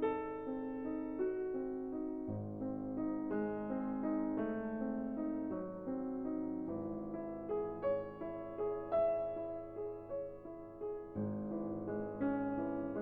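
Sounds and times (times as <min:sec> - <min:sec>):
piano playing background music: 0:00.0 - 0:13.0.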